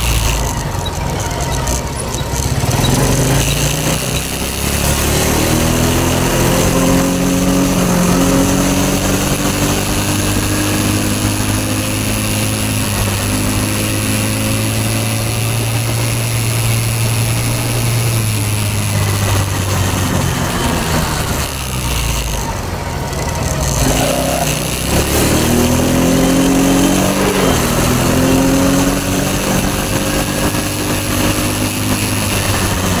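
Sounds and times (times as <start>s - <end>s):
quad bike engine revving: 0.0s - 33.0s.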